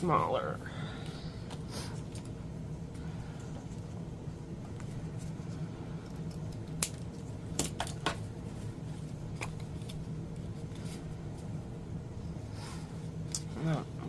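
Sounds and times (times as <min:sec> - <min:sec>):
air conditioner hum: 0:00.0 - 0:14.0.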